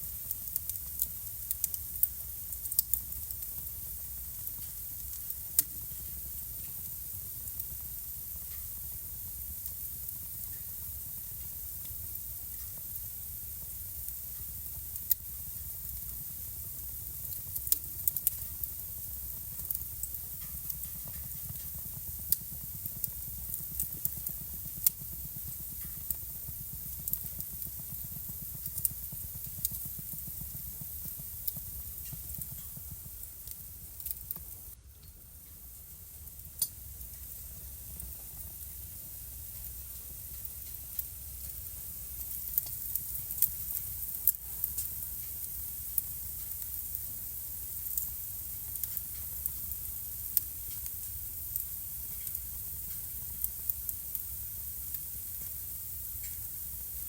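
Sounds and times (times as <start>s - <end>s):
fire hiss: 0.0s - 57.0s
wood fire crackling and popping: 0.0s - 57.0s.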